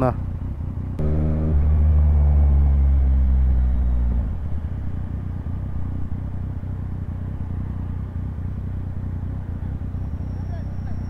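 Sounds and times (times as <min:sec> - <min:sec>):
motorcycle engine running: 0:00.0 - 0:11.0
wind and road rumble: 0:00.0 - 0:11.0.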